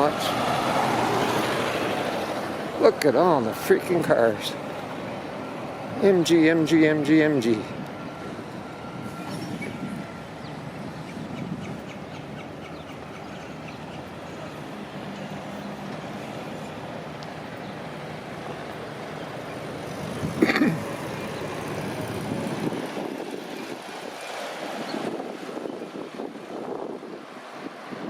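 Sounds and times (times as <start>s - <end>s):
cars and trucks passing: 0.0s - 28.0s.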